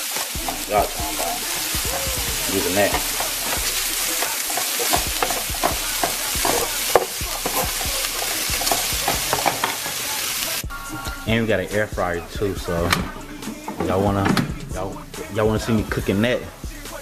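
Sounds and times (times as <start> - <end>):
fat crackling and popping: 0.0 - 17.0
patties sizzling on griddle: 0.0 - 17.0.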